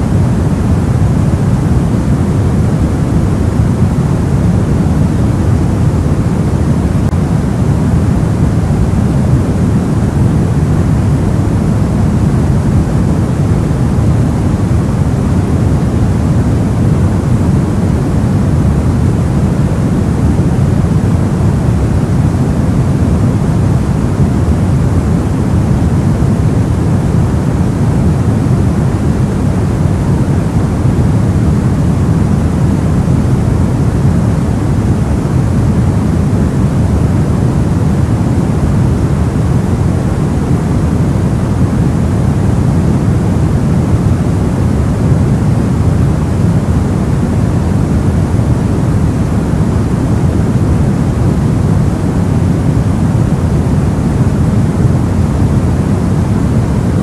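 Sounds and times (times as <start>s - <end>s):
deep white noise hiss: 0.0s - 57.0s.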